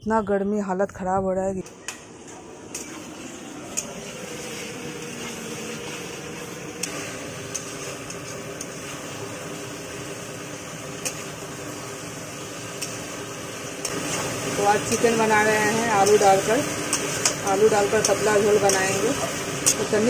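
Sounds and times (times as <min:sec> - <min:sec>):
curry sizzling in a pan: 0:02.7 - 0:20.0.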